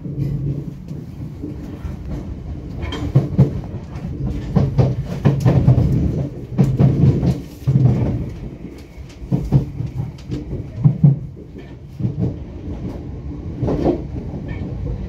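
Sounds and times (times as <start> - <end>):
steady low train rumble: 0.0 - 15.0.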